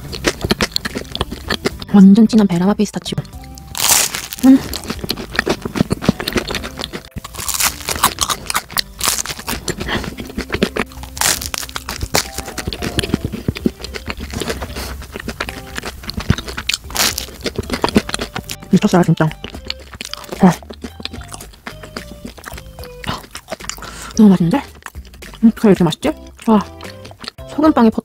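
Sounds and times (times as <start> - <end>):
bread crust crunching: 0.0 - 1.9, 3.6 - 25.6
moist chewing: 0.0 - 27.5.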